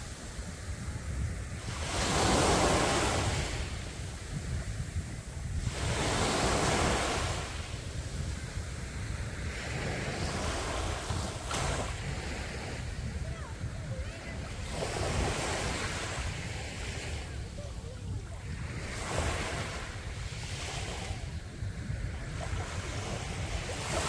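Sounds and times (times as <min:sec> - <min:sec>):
sea waves breaking on beach: 0:00.0 - 0:24.0
wind rumble on microphone: 0:00.0 - 0:24.0.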